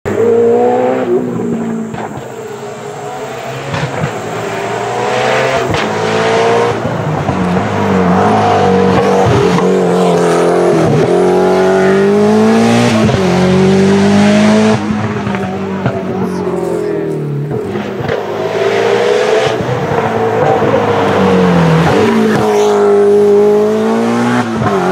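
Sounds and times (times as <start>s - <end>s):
rally car engine accelerating: 0.1s - 24.9s.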